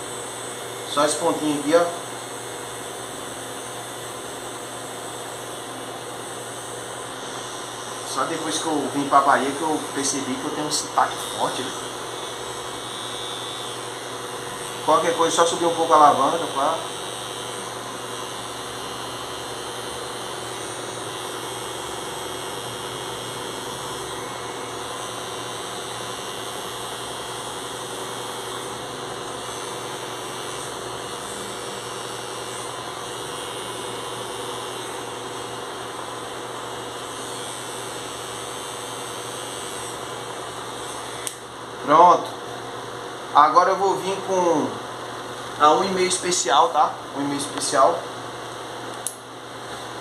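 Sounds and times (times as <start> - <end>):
hair clipper buzzing: 0.0 - 50.0.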